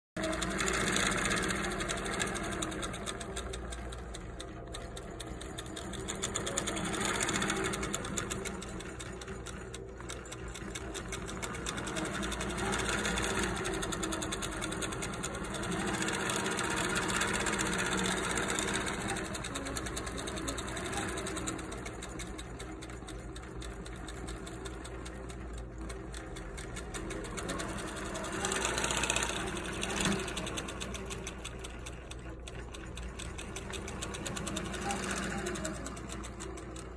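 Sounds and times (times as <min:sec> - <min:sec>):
quilting machine stitching: 0:00.2 - 0:36.9.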